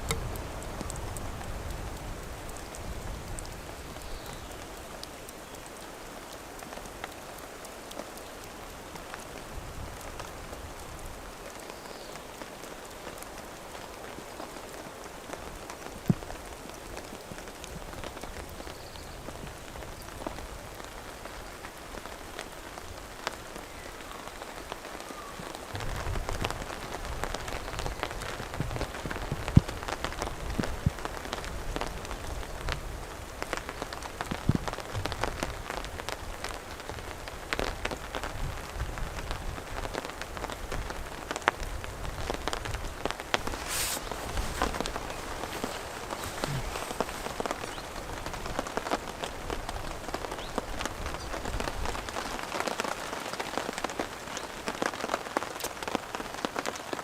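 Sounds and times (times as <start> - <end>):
light rain falling: 0.0 - 57.0
raindrops ticking: 0.0 - 57.0.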